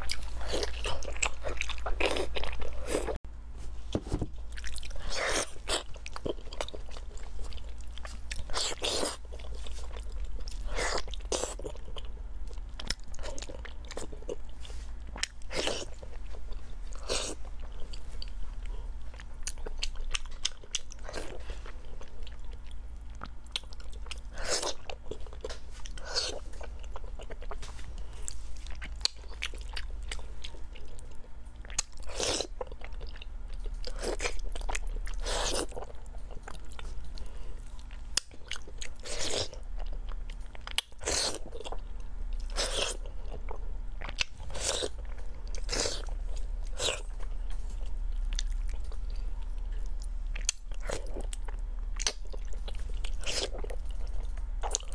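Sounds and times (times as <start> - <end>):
person chewing and biting: 0.0 - 3.2, 4.4 - 54.9.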